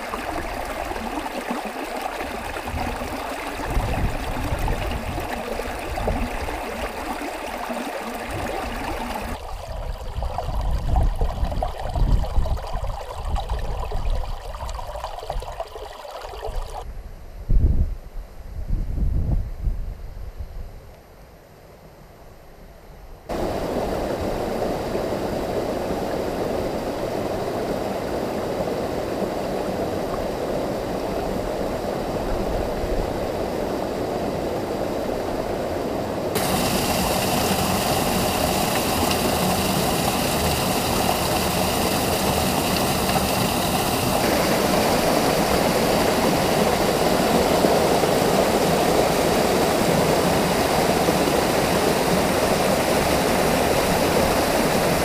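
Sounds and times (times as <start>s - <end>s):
stream water rushing: 0.0s - 16.8s, 23.3s - 55.0s.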